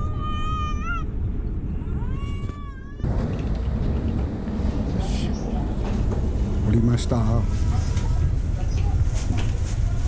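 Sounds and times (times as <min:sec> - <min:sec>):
airliner cabin rumble: 0:00.0 - 0:10.0
busier noise: 0:00.0 - 0:10.0.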